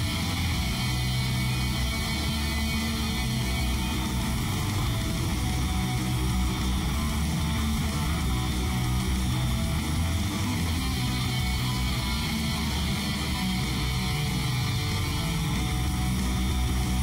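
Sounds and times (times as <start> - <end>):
guitar music: 0.0 - 17.0.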